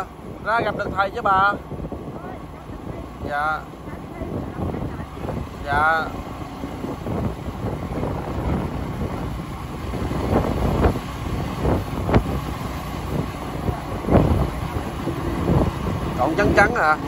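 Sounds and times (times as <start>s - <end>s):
motorbike engine running: 0.0s - 17.0s
wind on microphone: 0.0s - 17.0s.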